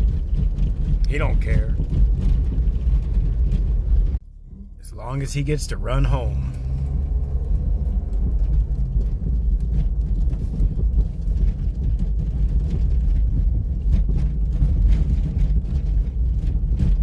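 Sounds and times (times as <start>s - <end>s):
vehicle rumbling over rough road: 0.0s - 17.0s.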